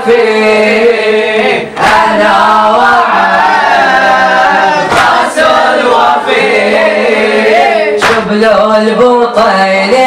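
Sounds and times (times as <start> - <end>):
boys chanting together: 0.0 - 9.3.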